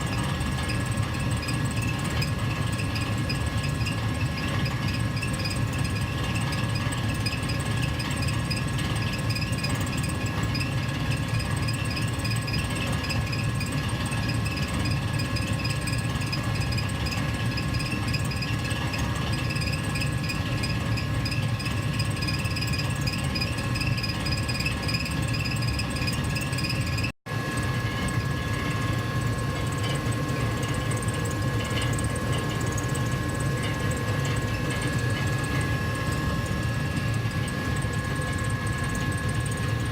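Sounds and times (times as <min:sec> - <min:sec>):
furnace blower rumble: 0:00.0 - 0:39.9.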